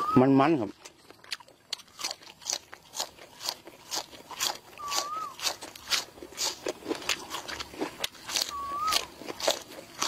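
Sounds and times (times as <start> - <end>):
crunching raw vegetable: 0.0 - 10.0.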